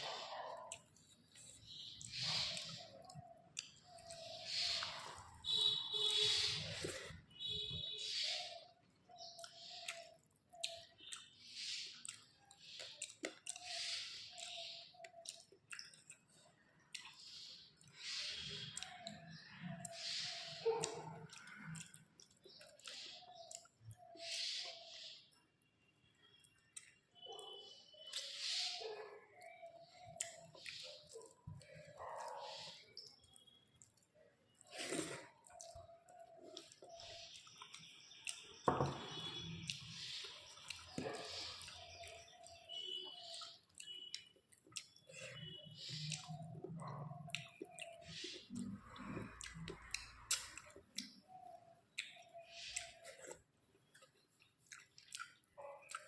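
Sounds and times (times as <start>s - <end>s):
lip and tongue clicks: 0.0s - 7.2s, 9.1s - 25.4s, 26.4s - 56.0s
close-miked wet chewing: 0.0s - 7.8s, 8.6s - 25.0s, 26.4s - 56.0s.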